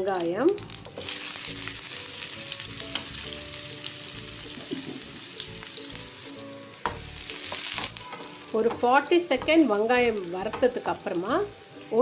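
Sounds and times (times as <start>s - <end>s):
onion sizzling in hot oil: 0.0s - 12.0s
soft background music: 0.0s - 12.0s.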